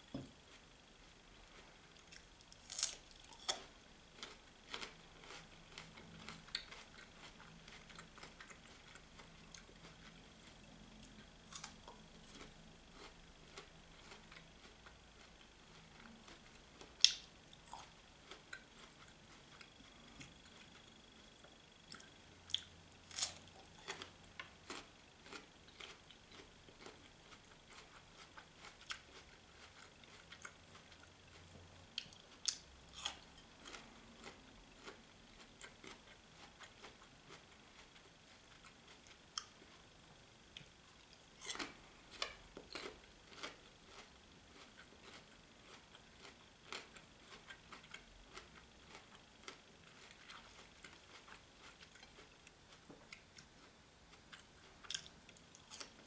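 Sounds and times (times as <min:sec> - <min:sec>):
person chewing: 0:01.4 - 0:39.8, 0:40.5 - 0:56.0.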